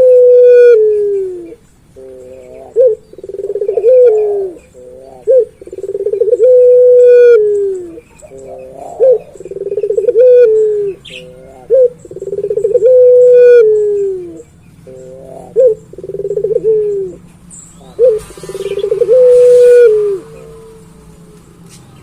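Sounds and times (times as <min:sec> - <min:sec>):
dove cooing: 0:00.0 - 0:21.4.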